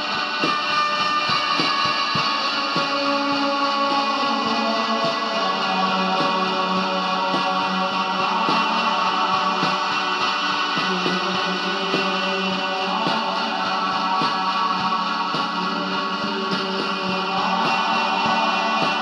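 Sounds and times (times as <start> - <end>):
guitar-led band music: 0.0 - 19.0.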